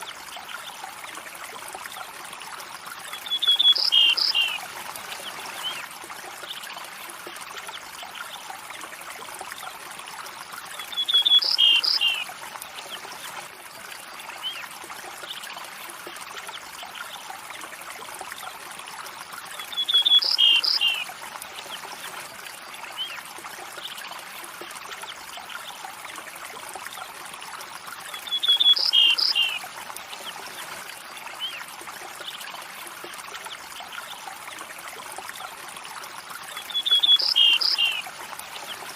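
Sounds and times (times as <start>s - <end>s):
stream running and trickling: 0.0s - 38.9s.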